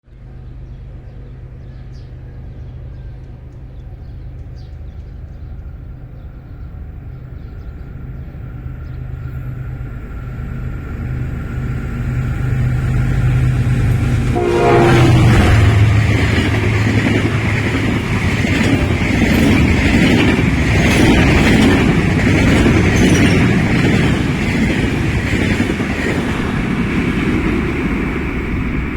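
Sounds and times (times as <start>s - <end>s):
locomotive engine hum: 0.1s - 28.9s
train coaches rumbling past: 0.1s - 28.9s.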